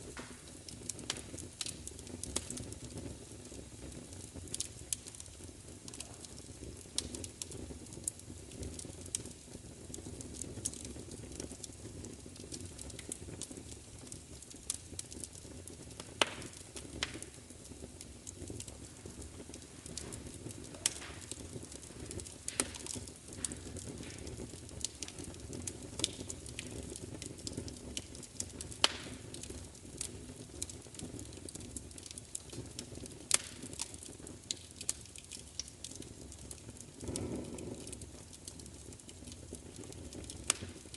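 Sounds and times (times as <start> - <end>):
fire crackling and popping: 0.0 - 40.9
low fire rumble: 0.0 - 40.9.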